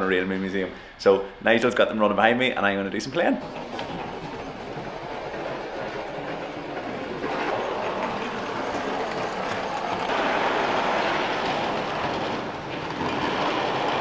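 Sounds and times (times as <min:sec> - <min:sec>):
model train wheels and motors: 0:02.7 - 0:14.0.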